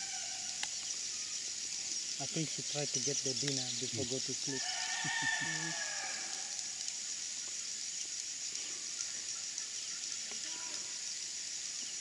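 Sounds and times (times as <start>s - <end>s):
insect chorus hissing: 0.0s - 12.0s.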